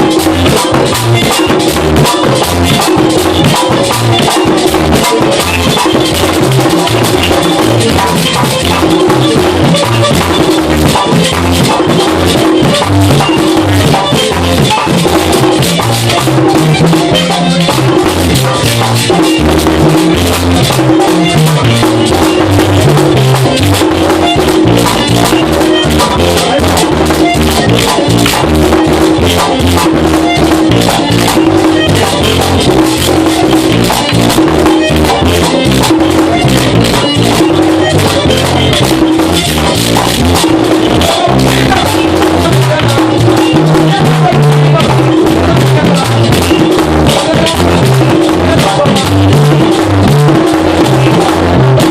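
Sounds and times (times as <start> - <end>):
bass guitar: 0.0 - 51.9
drum: 0.0 - 51.9
scraper rattling rhythm: 0.0 - 51.9.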